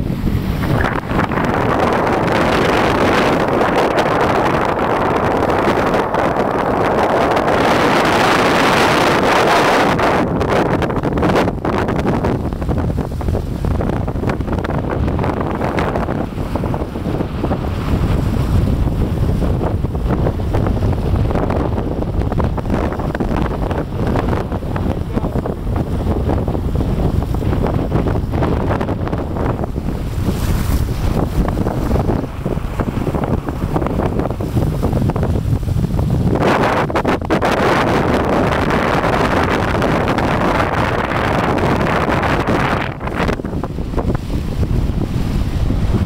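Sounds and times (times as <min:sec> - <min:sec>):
water splashing along hull: 0:00.0 - 0:46.0
wind buffeting microphone: 0:00.0 - 0:46.0.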